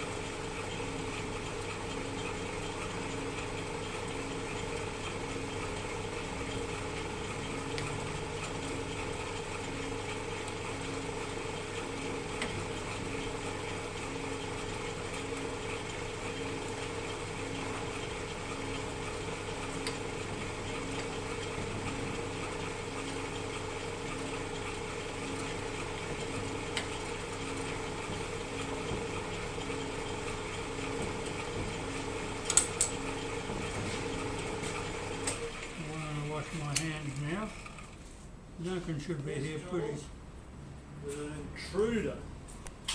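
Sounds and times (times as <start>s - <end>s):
lathe humming: 0.0s - 40.0s.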